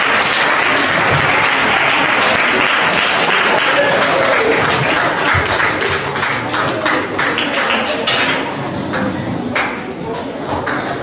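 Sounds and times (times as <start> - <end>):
audience applause: 0.0 - 11.0
scattered claps: 0.0 - 11.0.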